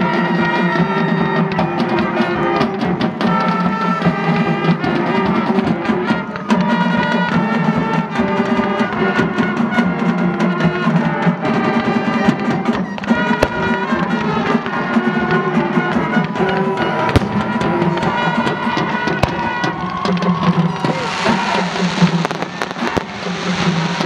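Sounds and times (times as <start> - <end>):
instrumental music with drums: 0.0 - 24.0
firework bangs: 3.2 - 24.0.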